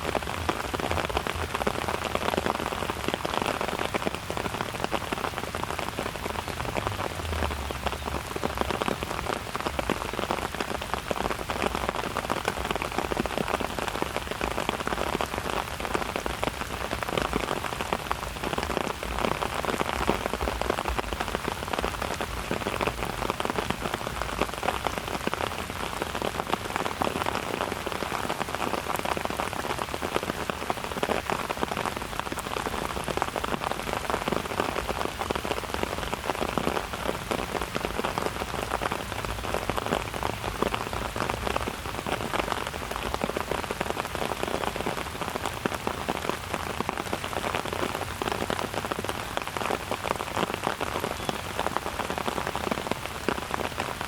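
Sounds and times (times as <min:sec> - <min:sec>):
rain patter on surfaces: 0:00.0 - 0:54.0.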